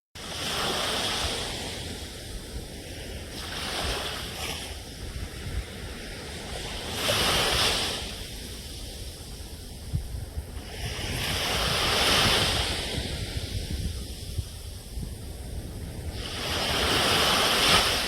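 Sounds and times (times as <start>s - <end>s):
ocean waves washing in: 0.2s - 18.0s.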